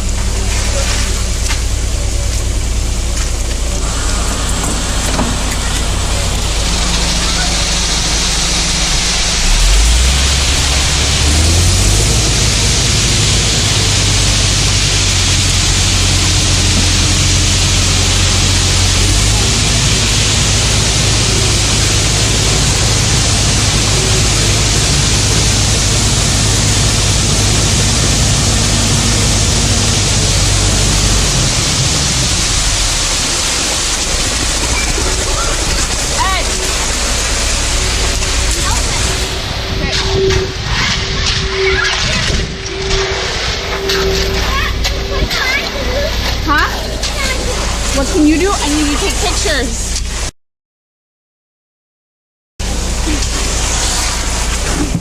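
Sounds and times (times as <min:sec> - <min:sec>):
engine humming: 0:00.0 - 0:50.3, 0:52.6 - 0:55.0
loud steady rushing noise: 0:00.0 - 0:50.3.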